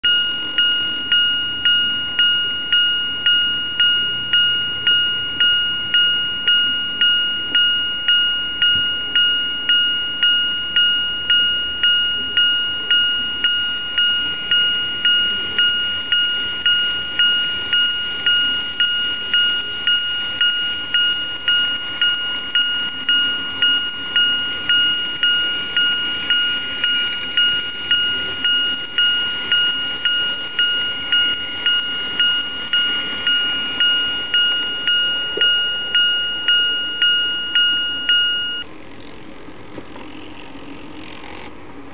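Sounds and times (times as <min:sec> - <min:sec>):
crossing warning bell ringing: 0:00.0 - 0:38.8.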